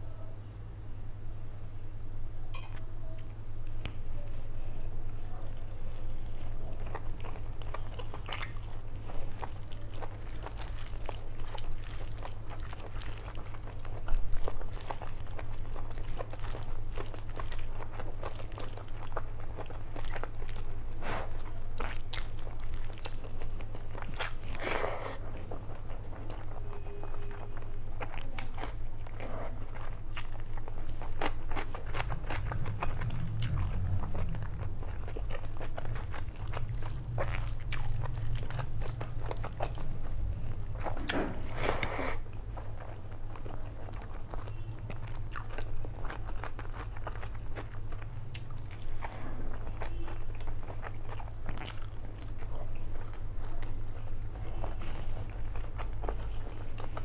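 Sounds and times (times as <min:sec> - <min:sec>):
person chewing with wet mouth sounds: 0:02.6 - 0:57.0.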